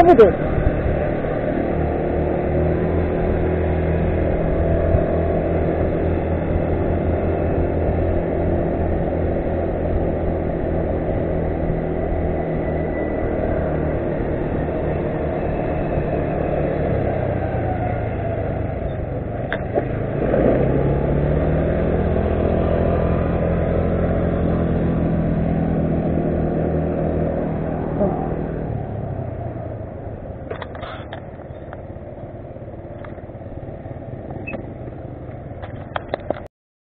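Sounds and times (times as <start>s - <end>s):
rushing riding noise: 0.0s - 36.4s
scooter and atv engines: 0.0s - 36.5s.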